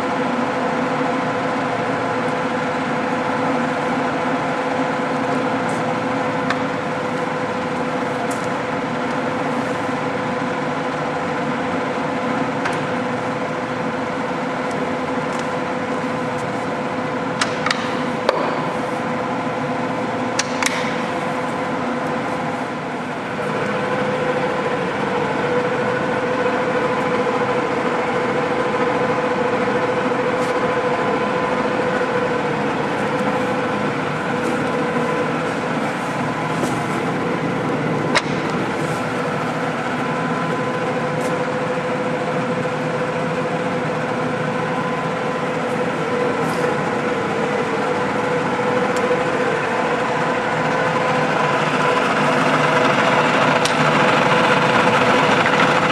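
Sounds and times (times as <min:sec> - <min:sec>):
lathe running with gear whine: 0:00.0 - 0:55.9.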